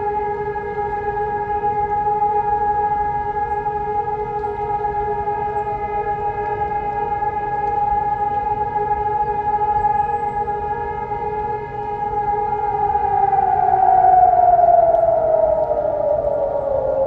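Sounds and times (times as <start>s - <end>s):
electronic sirens steady tone: 0.0s - 17.0s.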